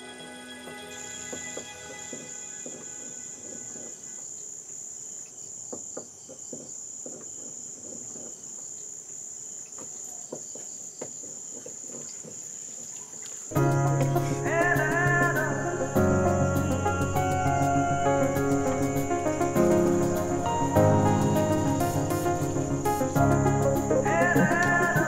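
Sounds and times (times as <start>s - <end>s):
crickets trilling: 1.1s - 25.0s.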